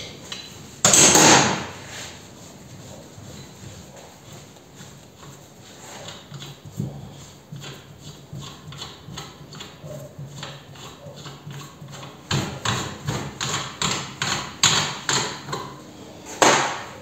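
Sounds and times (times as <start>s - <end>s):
rhythmic scraping of nut spinning: 2.2s - 15.9s.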